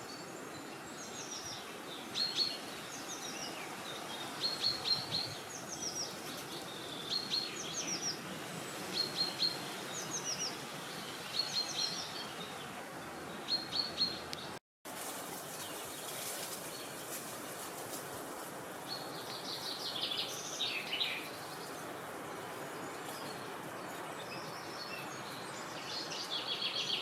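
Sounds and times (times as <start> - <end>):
small birds singing: 0.0 - 14.6, 15.3 - 27.0
wind hiss: 0.0 - 27.0.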